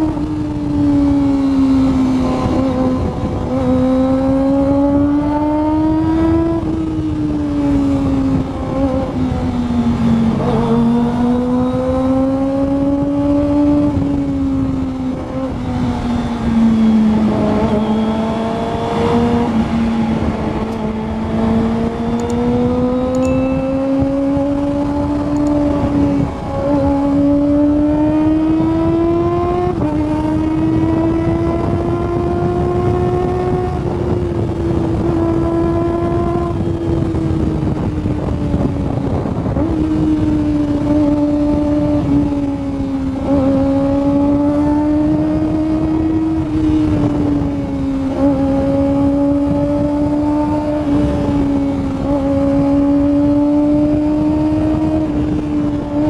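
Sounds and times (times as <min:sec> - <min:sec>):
motorcycle engine screaming at high revs: 0:00.0 - 0:56.0.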